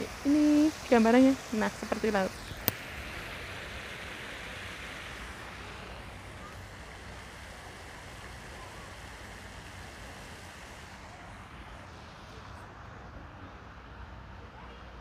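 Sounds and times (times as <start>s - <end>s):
fountain jets splashing into pool: 0.0s - 15.0s.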